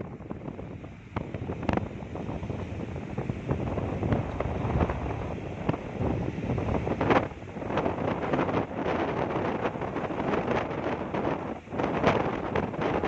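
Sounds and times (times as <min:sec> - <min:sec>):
ocean waves washing onto beach: 0:00.0 - 0:13.0
wind buffeting microphone: 0:00.0 - 0:13.0.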